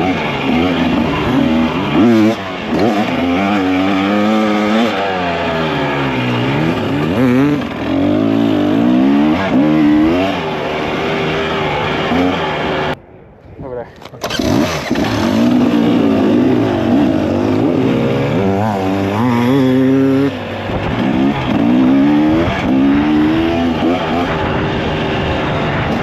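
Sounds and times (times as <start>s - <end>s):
dirt bike engine revving: 0.0s - 13.0s, 14.2s - 26.0s.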